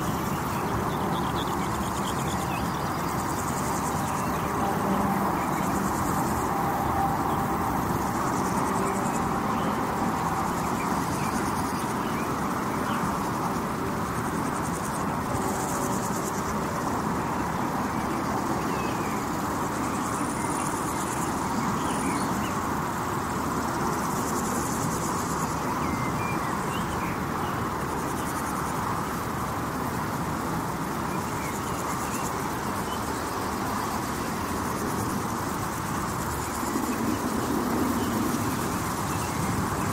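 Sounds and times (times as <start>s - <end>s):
crickets chirping: 0.0s - 39.9s
highway traffic roar: 0.0s - 39.9s.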